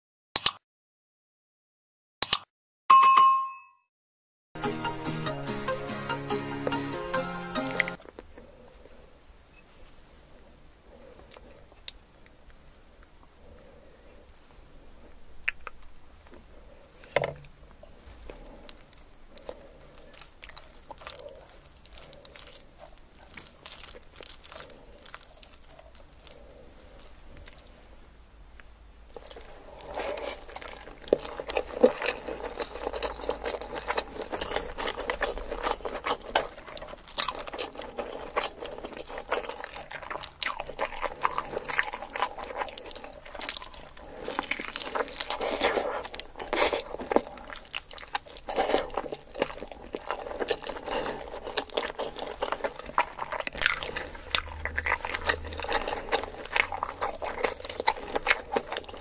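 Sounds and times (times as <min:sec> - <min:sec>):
person chewing food: 0:06.5 - 0:09.1, 0:10.9 - 0:28.0, 0:28.6 - 0:59.0.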